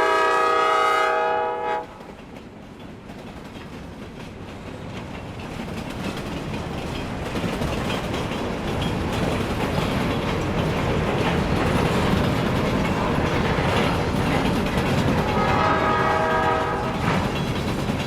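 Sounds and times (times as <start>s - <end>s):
diesel freight train rumbling: 0.0s - 18.0s.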